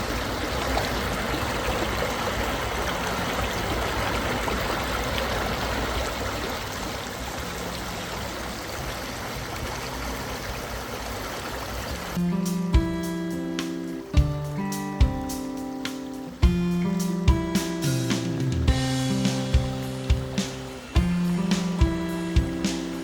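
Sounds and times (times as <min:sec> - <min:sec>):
running water: 0:00.0 - 0:23.0.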